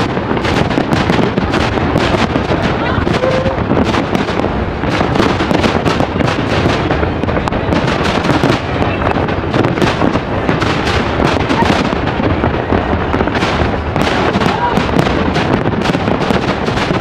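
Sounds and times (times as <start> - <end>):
continuous rumble: 0.0 - 17.0
firework shells bursting: 0.0 - 17.0.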